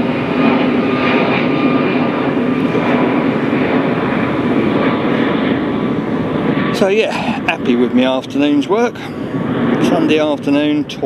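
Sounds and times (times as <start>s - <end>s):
jet plane roaring overhead: 0.0s - 11.0s.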